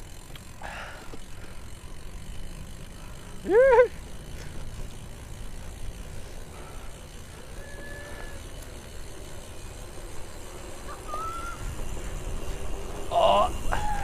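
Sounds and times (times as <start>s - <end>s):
bike tyres rolling on concrete: 0.0s - 14.0s.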